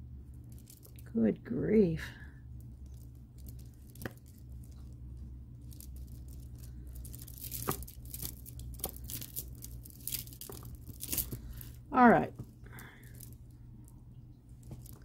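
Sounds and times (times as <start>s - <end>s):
beads clicking and rattling: 0.3s - 1.2s, 2.4s - 15.0s.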